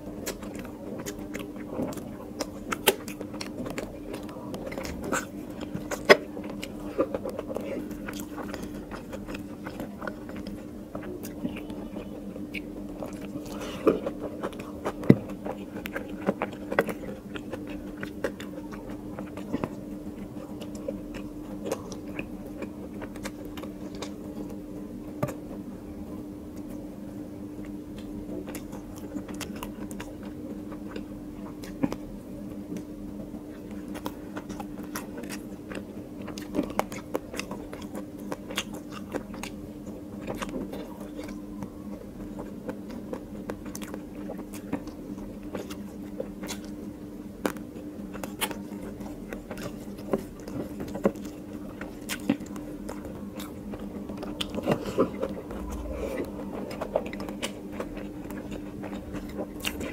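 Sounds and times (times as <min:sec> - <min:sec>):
person chewing food: 0:00.0 - 0:25.7, 0:27.5 - 0:59.9
steady low hum: 0:00.0 - 0:59.9.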